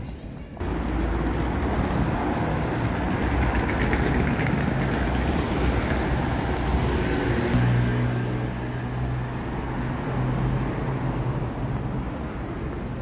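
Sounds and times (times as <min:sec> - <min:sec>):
cars passing by: 0:00.6 - 0:13.0.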